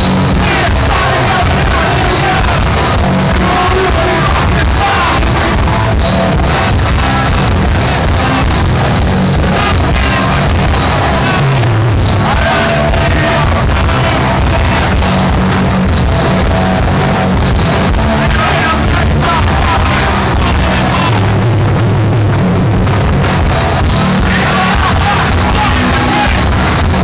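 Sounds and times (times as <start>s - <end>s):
punk band playing live: 0.0s - 27.0s
shouted vocals: 0.1s - 21.6s, 24.0s - 27.0s.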